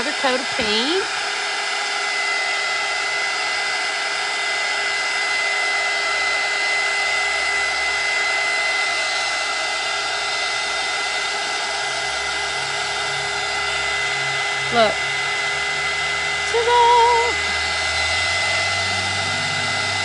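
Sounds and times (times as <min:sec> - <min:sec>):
blow dryer running: 0:00.0 - 0:20.0.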